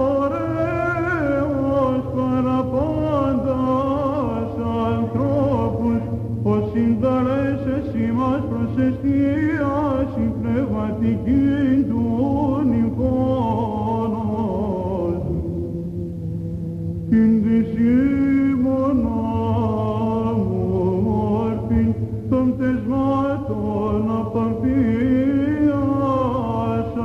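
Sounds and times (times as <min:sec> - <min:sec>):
man chanting ornamented melody: 0:00.0 - 0:16.1, 0:17.0 - 0:27.0
low vocal drone: 0:00.0 - 0:27.0.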